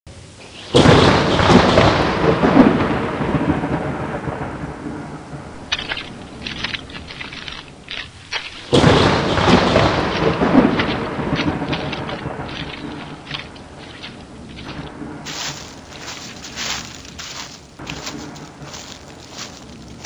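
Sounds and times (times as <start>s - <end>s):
crackling rain patter: 0.7s - 20.0s
thunderclap rumbling: 0.8s - 7.8s, 8.7s - 20.0s.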